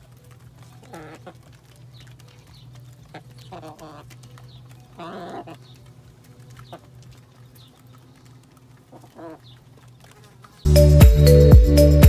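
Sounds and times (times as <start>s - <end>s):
hens calling: 0.0s - 10.7s
small clicks: 0.0s - 10.7s.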